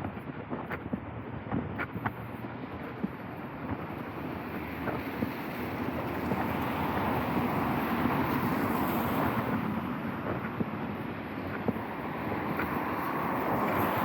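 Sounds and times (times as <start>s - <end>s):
traffic on wet street: 0.0s - 14.0s.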